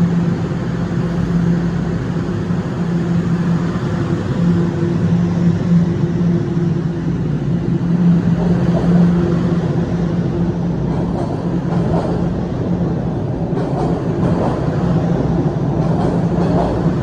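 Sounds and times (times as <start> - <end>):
subway train humming and rumbling: 0.0 - 17.0.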